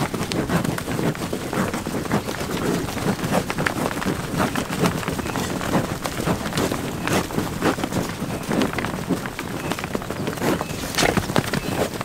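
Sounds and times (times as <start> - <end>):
bison hoofbeats on dirt: 0.0 - 12.0.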